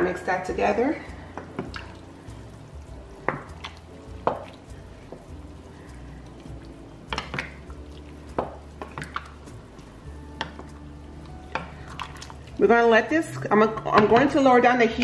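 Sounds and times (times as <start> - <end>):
spatula scraping through soup: 1.3 - 13.5.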